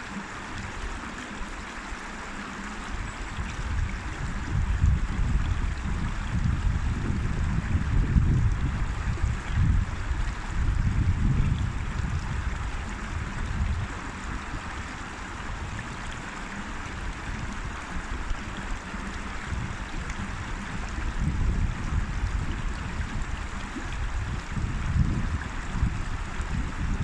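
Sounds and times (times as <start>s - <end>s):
river water rushing: 0.0s - 6.8s, 11.7s - 27.0s.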